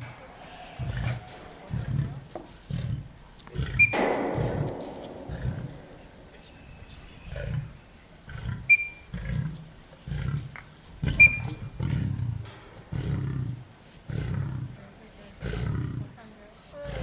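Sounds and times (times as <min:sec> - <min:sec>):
lion roaring: 0:00.0 - 0:14.8.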